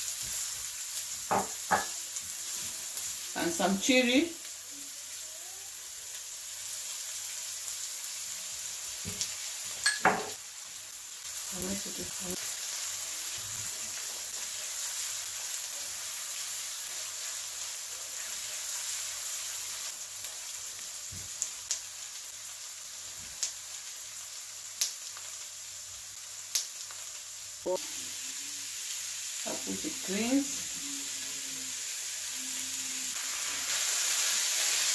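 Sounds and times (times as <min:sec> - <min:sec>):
food sizzling in oil in a wok: 0:00.0 - 0:34.9.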